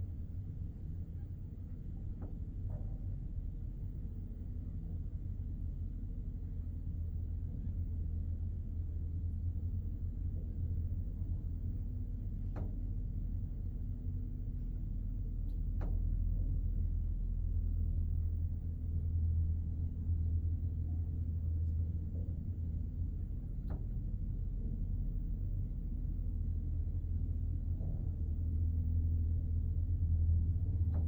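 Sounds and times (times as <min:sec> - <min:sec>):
elevator hum and rumble: 0:00.0 - 0:31.0.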